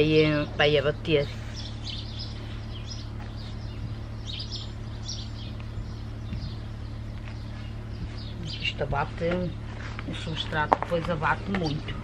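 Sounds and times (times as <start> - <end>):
songbirds chirping: 0.0 - 12.0
steady low hum: 0.0 - 12.0.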